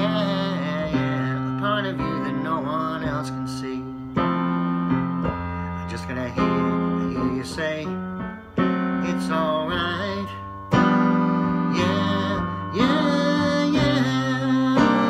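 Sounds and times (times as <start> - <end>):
man singing a slow ballad: 0.0 - 4.4, 5.0 - 15.0
electric piano chords: 0.0 - 15.0.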